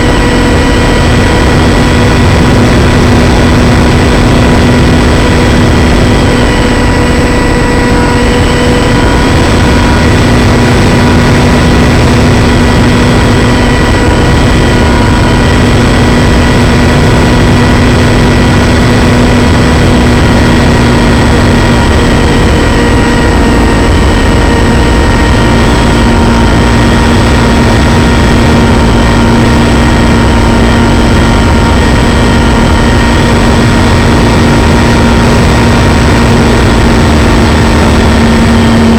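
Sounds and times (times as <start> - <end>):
model plane motor drone: 0.0 - 38.9
wind rushing over microphone: 0.0 - 38.9.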